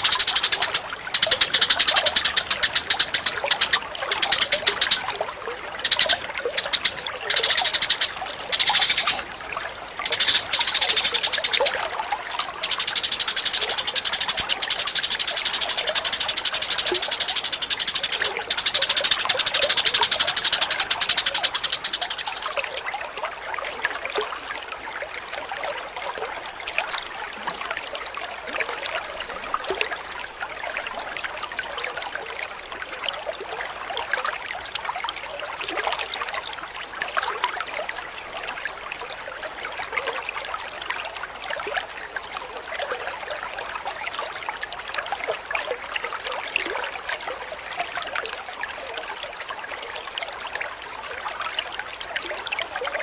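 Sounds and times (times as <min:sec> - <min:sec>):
stream water trickling: 0:00.0 - 0:53.0.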